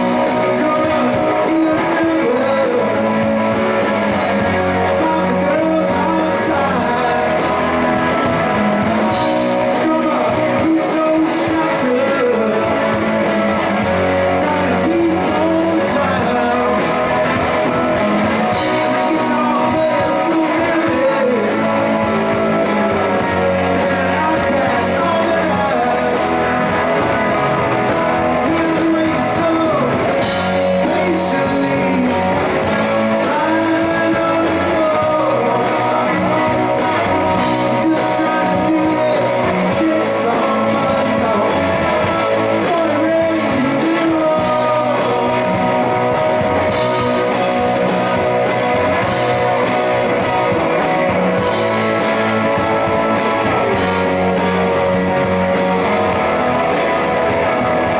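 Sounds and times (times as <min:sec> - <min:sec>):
guitars strummed and picked: 0:00.0 - 0:57.9
man singing lead vocal: 0:00.0 - 0:57.9.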